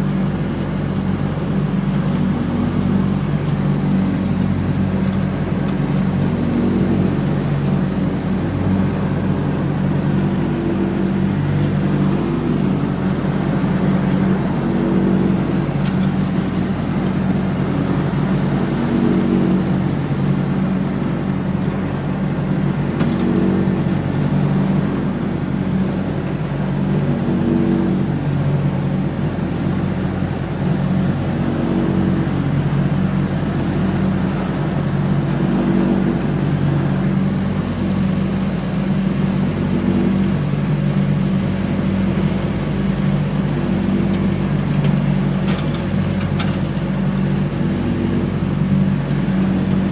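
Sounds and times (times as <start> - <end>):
lawn tractor engine running: 0.0 - 27.8, 28.4 - 49.9.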